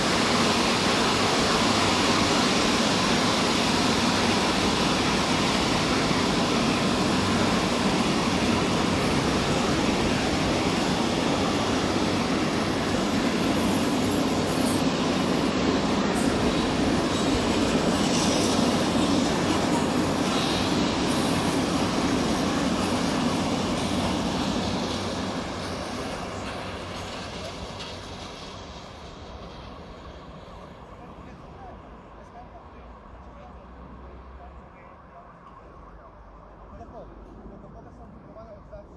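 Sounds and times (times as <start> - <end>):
train running on rails: 0.0 - 38.9.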